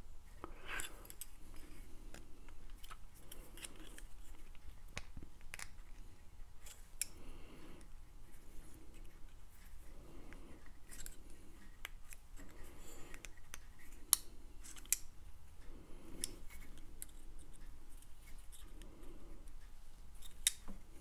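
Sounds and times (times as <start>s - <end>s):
soft handling rustle: 0.0s - 21.0s.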